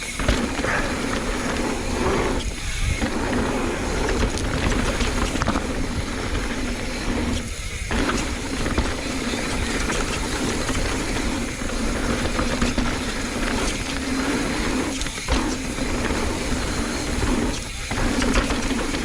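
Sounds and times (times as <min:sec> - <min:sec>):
bike chain and frame rattling: 0:00.0 - 0:19.0
tyre and wind noise: 0:00.0 - 0:19.0.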